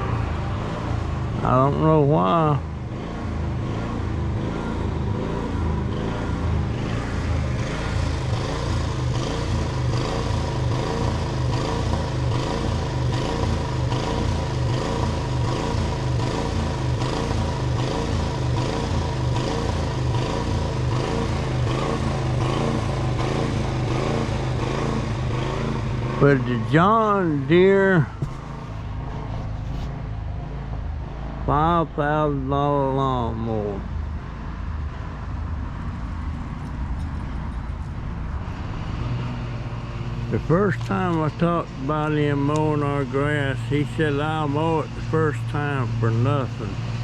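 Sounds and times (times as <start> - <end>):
engine running with low throb: 0.0 - 47.0.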